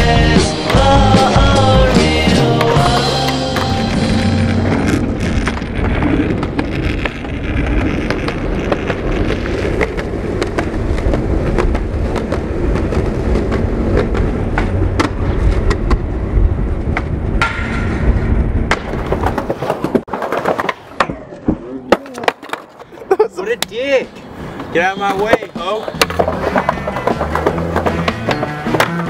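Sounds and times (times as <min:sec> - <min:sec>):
skateboard wheels rolling on asphalt: 0:00.0 - 0:29.0.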